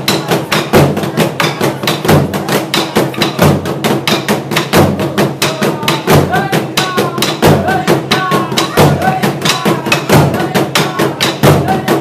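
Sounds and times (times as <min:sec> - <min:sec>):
deep drum beat: 0:00.0 - 0:12.0.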